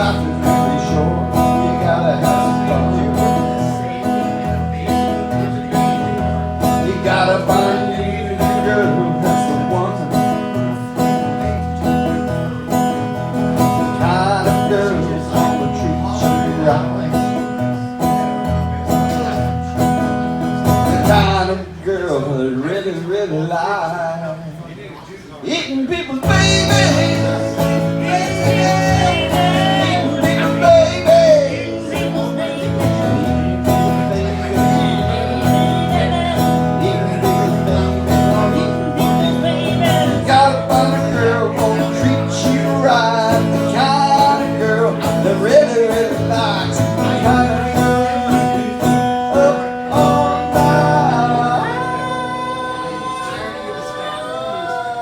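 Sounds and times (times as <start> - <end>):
bending guitar melody: 0.0 - 22.4, 26.2 - 54.6
strummed guitar: 0.0 - 24.7, 25.5 - 55.0.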